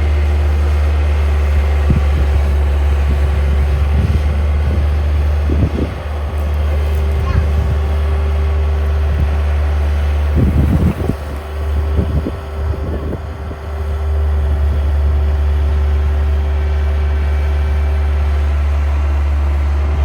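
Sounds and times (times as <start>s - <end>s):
engine humming steadily: 0.0s - 20.0s
low thumps and rumbles: 0.0s - 20.0s.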